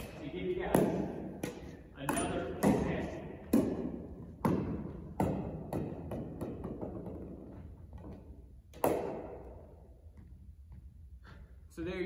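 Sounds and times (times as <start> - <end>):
tennis ball bouncing on wood floor: 0.0 - 10.8.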